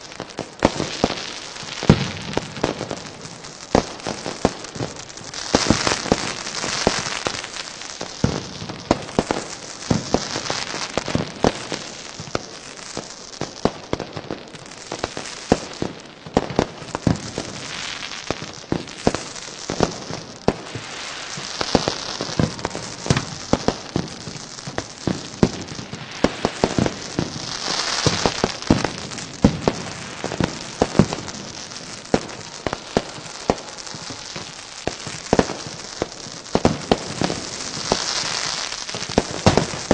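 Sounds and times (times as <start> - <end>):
fireworks bangs and pops: 0.0 - 39.9
fireworks crackling hiss: 0.0 - 39.9.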